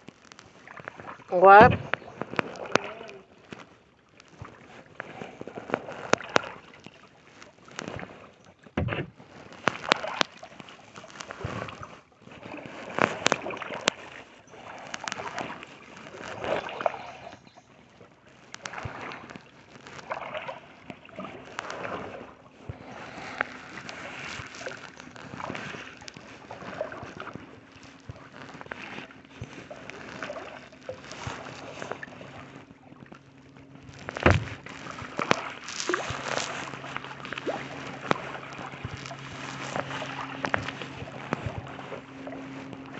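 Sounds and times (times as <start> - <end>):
paddle splashing in water: 0.0 - 42.9.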